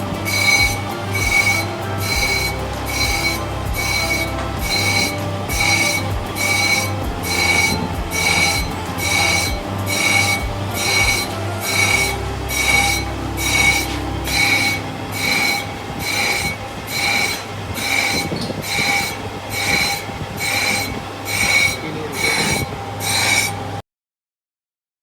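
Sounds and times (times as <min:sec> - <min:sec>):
high metallic squeal: 0:00.0 - 0:23.8
lathe humming: 0:00.0 - 0:23.8.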